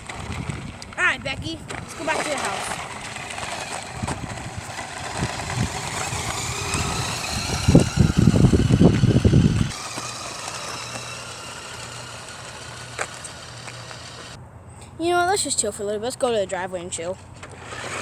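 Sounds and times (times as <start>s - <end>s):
toy car electric motor whine: 0.0s - 14.4s, 17.4s - 18.0s.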